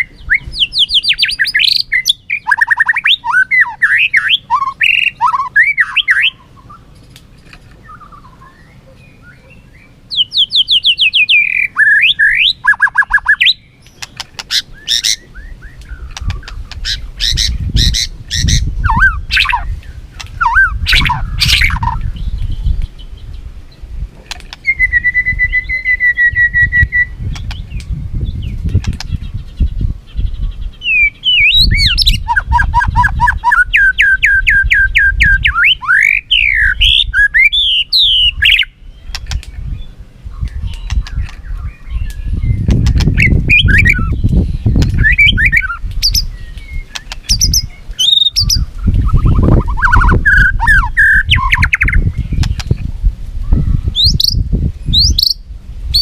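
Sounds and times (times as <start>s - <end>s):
songbird singing varied song: 0.0s - 56.0s.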